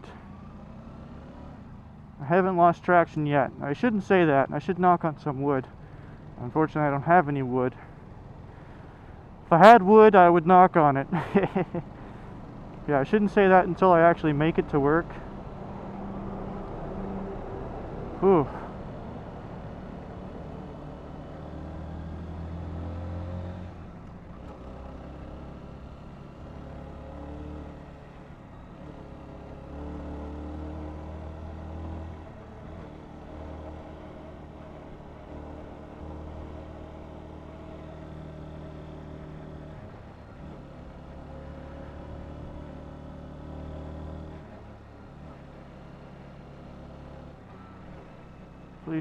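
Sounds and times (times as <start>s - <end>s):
road and wind noise: 0.0s - 49.0s.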